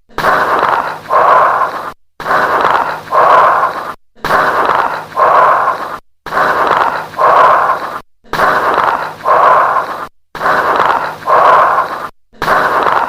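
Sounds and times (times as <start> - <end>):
breathing through a stethoscope: 0.1 - 13.0
lung crackles: 0.1 - 13.0.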